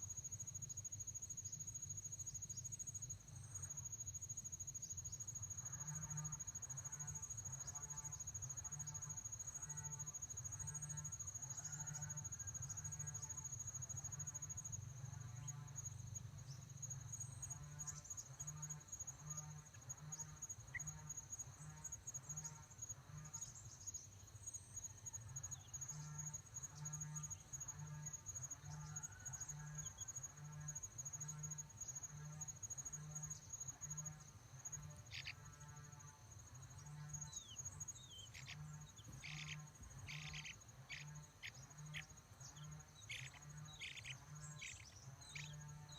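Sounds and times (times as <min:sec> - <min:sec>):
insects trilling: 0:00.0 - 0:45.9.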